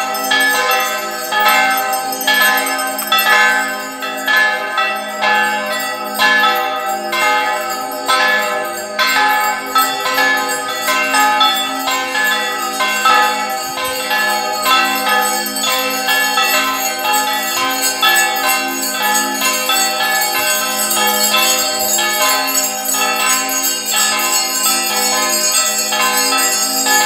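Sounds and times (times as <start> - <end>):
bells ringing: 0.0 - 27.0.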